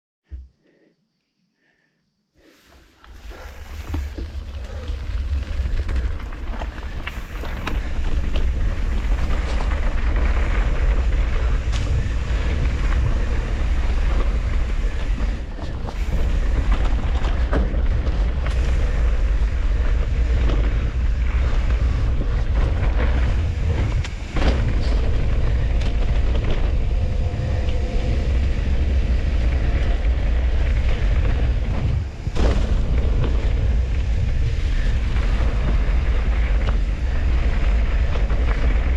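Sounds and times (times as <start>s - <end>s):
bike trail noise: 2.4s - 38.9s
wind buffeting microphone: 3.2s - 38.9s.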